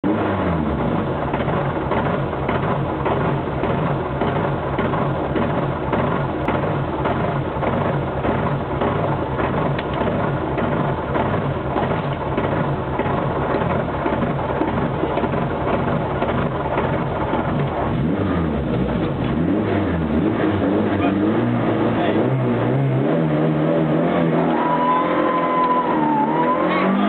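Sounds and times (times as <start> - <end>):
car engine idling: 0.6 - 22.9.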